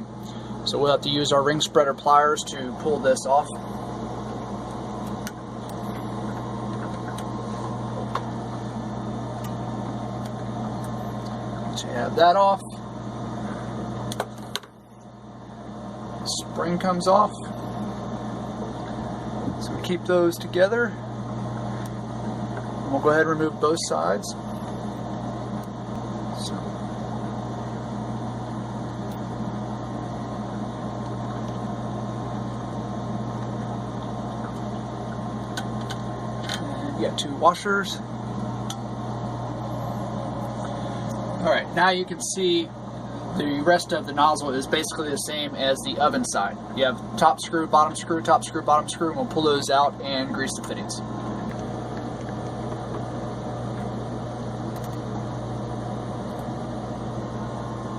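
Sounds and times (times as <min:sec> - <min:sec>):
low mechanical hum: 0:00.0 - 0:57.9.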